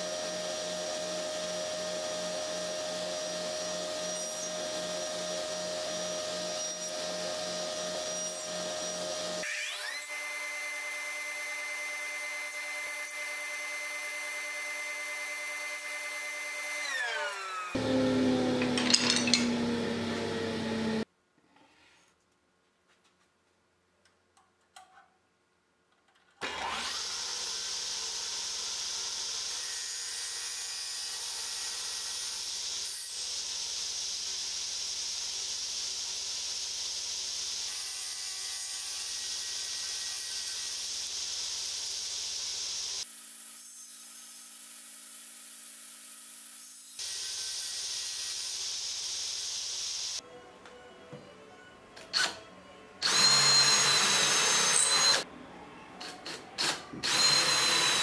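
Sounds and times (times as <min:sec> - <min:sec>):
circular saw cutting wood: 0:00.0 - 0:21.1, 0:26.4 - 0:50.2, 0:53.0 - 0:55.3, 0:56.2 - 0:58.0.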